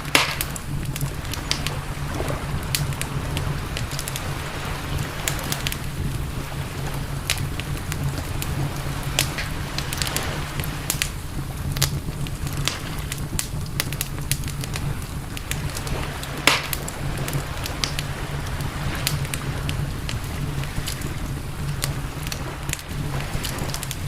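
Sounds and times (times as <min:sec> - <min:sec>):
campfire crackling and popping: 0:00.0 - 0:24.0
steady low rumble: 0:00.0 - 0:24.0.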